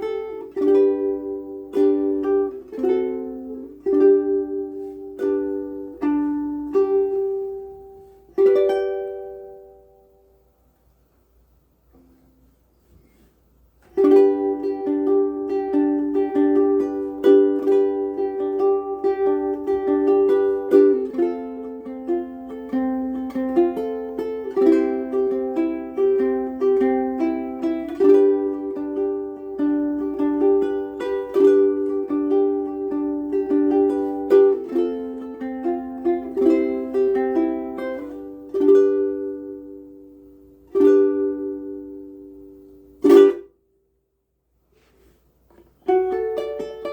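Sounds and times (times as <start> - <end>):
ukulele plucked and strummed: 0.0 - 10.6, 11.8 - 43.7, 44.7 - 46.9.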